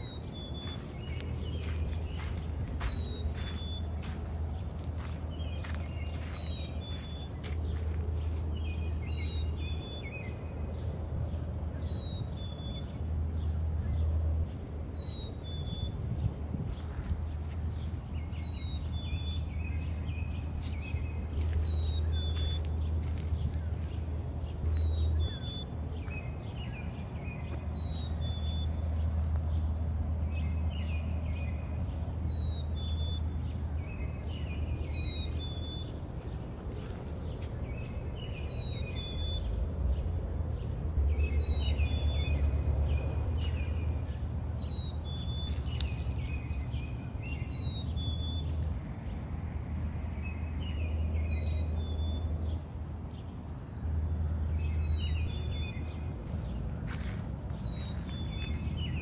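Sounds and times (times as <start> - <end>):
songbird singing: 0.0 - 59.0
steady low rumble: 0.0 - 59.0.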